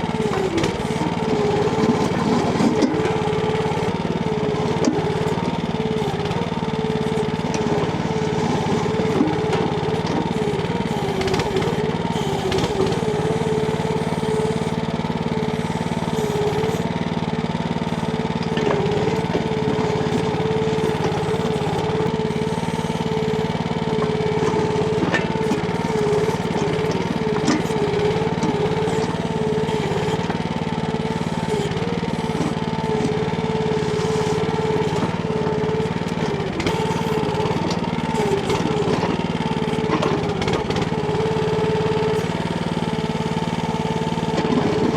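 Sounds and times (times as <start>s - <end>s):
small petrol engine running: 0.0s - 44.9s.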